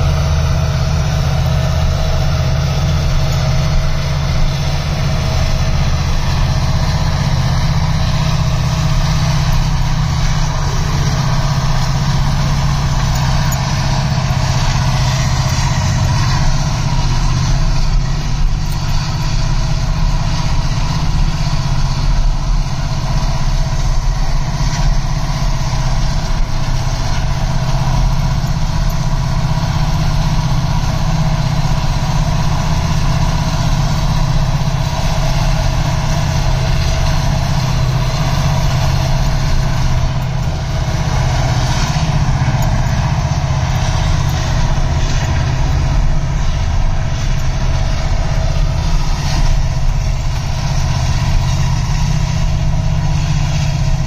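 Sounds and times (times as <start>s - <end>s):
car cabin road and engine rumble: 0.0s - 54.0s.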